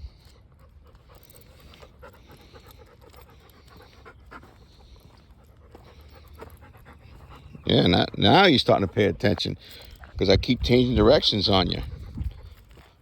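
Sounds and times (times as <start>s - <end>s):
dog panting: 0.1s - 13.0s.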